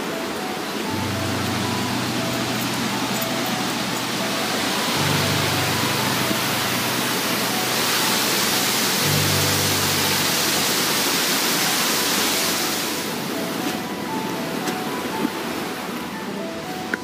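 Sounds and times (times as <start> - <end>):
soft background music: 0.0 - 17.0
waterfall rushing over rocks: 0.0 - 17.0.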